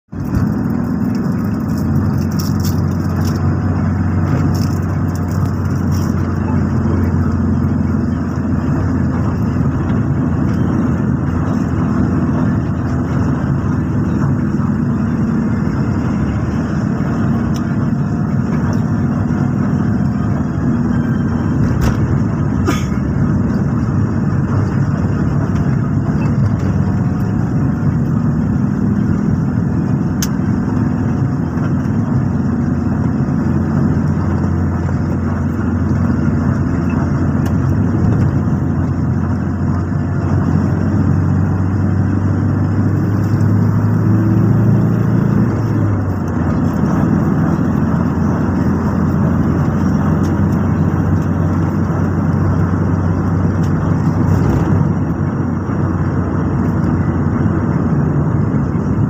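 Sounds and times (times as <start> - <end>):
car engine and tyre road noise: 0.0 - 59.0.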